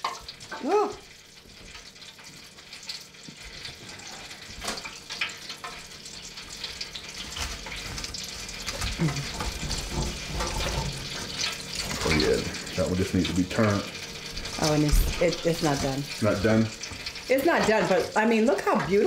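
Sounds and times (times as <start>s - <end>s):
chicken frying in oil: 0.0s - 19.0s.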